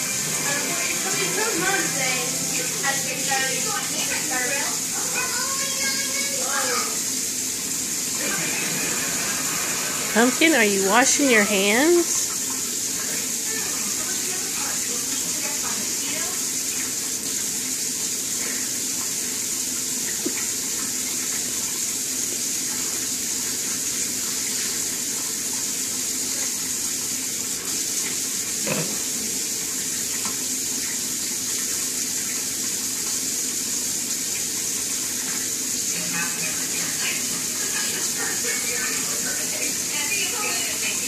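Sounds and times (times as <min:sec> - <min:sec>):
faucet running into steel sink: 0:00.0 - 0:11.3, 0:11.9 - 0:41.0.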